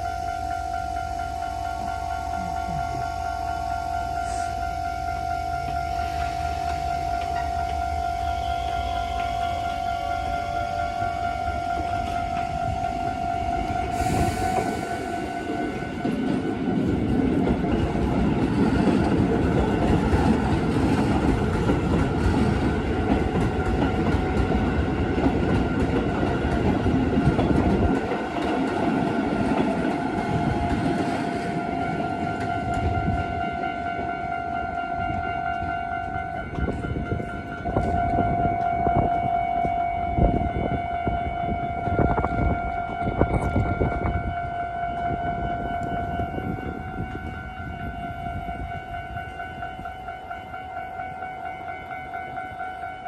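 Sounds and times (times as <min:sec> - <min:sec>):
train wheels rumbling over rails: 0:00.0 - 0:52.9
level crossing alarm ringing: 0:00.0 - 0:53.0.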